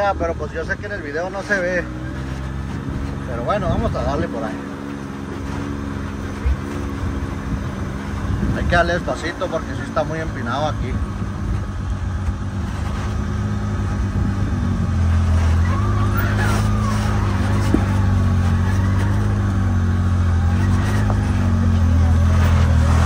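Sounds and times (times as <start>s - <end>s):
vehicle engine at low revs: 0.0s - 23.0s.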